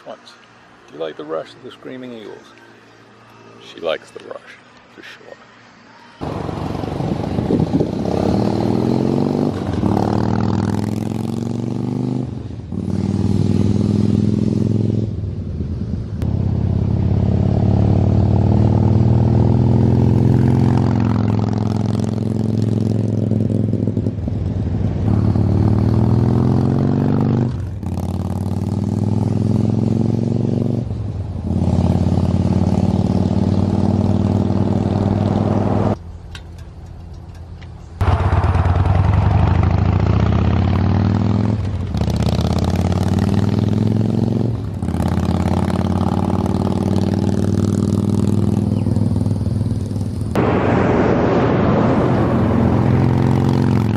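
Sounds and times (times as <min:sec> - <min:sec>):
motorcycle engine revving loud: 0:06.2 - 0:15.2, 0:16.2 - 0:24.2, 0:25.1 - 0:36.0, 0:38.0 - 0:53.9.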